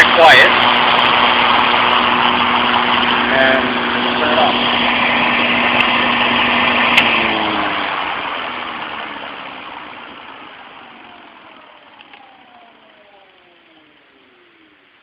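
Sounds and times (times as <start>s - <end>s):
lawnmower motor winding down: 0.0s - 15.0s.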